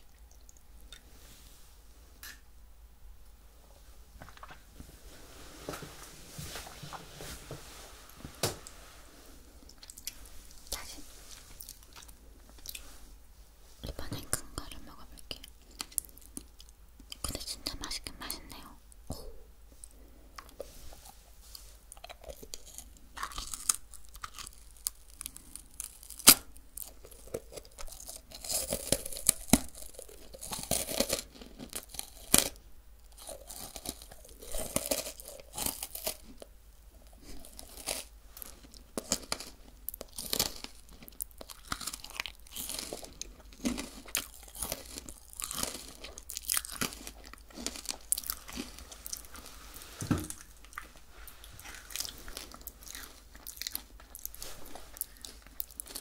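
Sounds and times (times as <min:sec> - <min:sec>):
chewing crunchy sweets: 0:09.6 - 0:12.9, 0:13.9 - 0:56.0.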